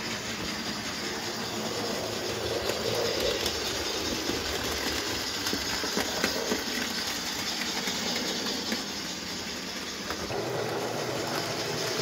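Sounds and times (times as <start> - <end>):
model train motor whirring: 0.0 - 12.0
wheels clicking over rail joints: 0.0 - 12.0.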